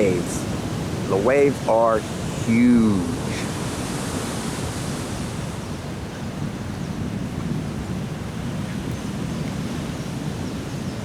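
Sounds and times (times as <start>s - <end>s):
storm surf crashing: 0.0s - 11.0s
wind buffeting microphone: 0.0s - 11.0s.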